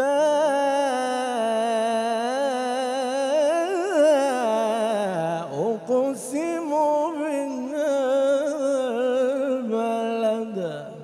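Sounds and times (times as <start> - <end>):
man reciting melismatically: 0.0 - 11.0.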